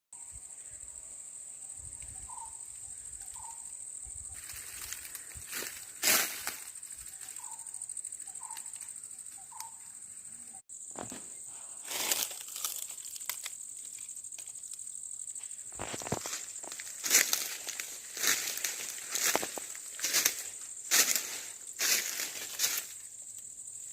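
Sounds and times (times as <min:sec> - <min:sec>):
insects droning: 0:00.2 - 0:23.9.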